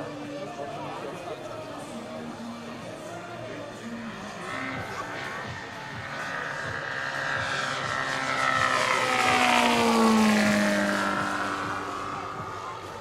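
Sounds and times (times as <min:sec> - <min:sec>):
model airplane flying past: 0:00.0 - 0:13.0.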